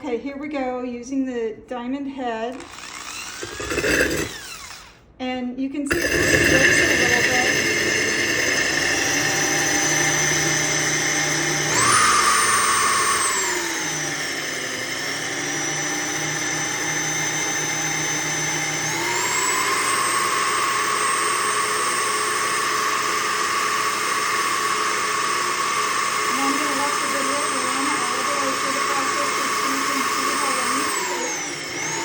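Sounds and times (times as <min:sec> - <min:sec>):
electric drill whining: 0:02.5 - 0:05.1, 0:05.9 - 0:32.0.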